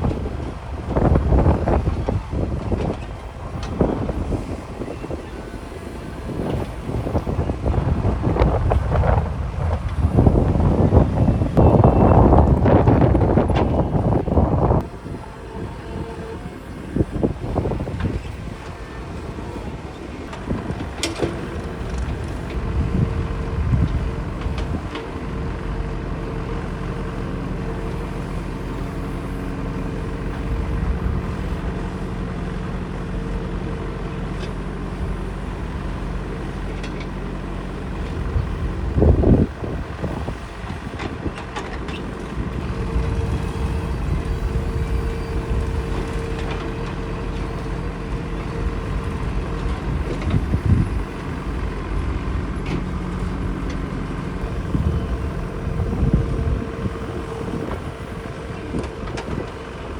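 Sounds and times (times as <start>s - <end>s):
diesel machinery engine running: 0.0s - 59.9s.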